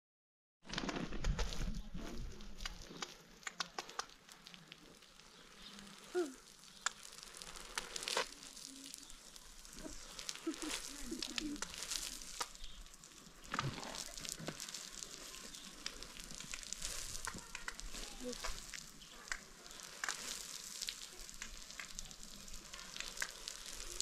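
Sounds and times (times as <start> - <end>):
food frying with crackles: 0.7 - 24.0.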